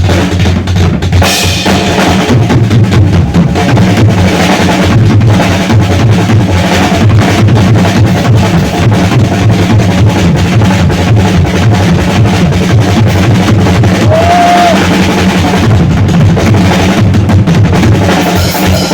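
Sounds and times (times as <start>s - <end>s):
rock drum kit playing fast: 0.0s - 18.9s.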